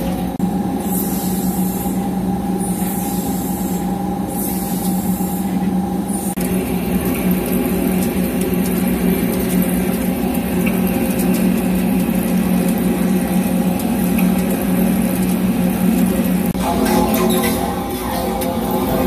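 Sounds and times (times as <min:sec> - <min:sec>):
lathe machine hum: 0:00.0 - 0:19.0.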